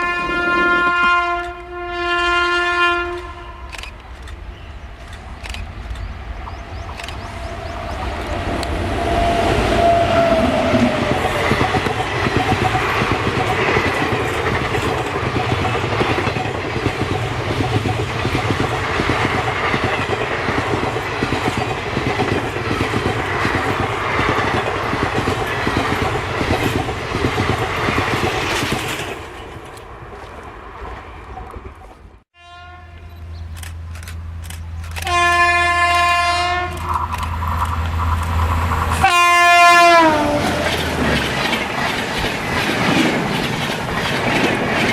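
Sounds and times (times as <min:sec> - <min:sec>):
train wheels clattering over rails: 0:03.2 - 0:30.4, 0:36.0 - 0:44.9.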